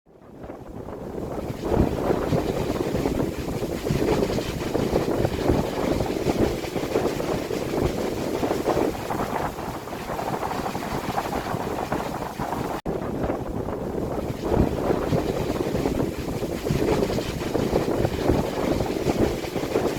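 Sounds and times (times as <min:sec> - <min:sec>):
strong wind gusting: 0:00.1 - 0:19.9
wind noise on microphone: 0:00.1 - 0:19.9.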